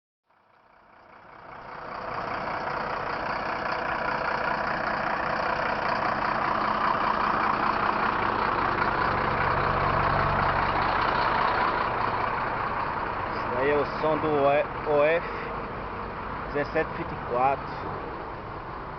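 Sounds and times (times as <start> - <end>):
bus diesel engine running: 0.3 - 18.9.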